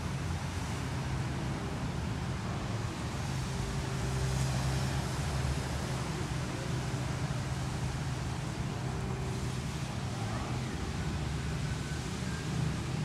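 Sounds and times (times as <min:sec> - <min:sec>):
distant city traffic: 0:00.0 - 0:13.0.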